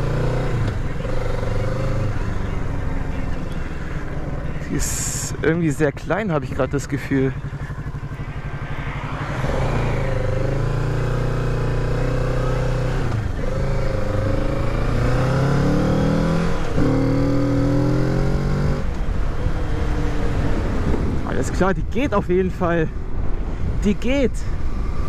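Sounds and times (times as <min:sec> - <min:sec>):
motorcycle engine accelerating: 0:00.0 - 0:21.6.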